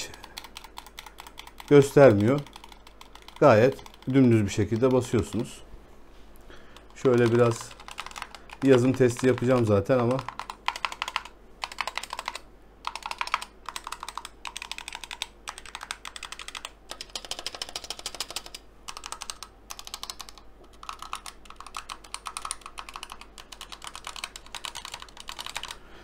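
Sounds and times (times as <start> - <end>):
keyboard typing: 0.0 - 5.6, 6.7 - 25.8.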